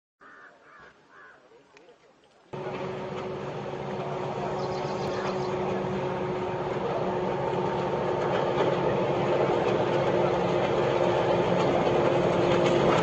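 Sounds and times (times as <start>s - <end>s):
diesel locomotive engine humming: 2.6s - 13.0s.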